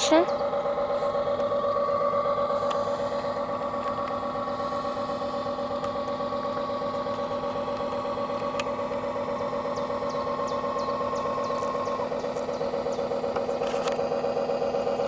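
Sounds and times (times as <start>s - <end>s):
model boat motor hum: 0.0s - 15.0s.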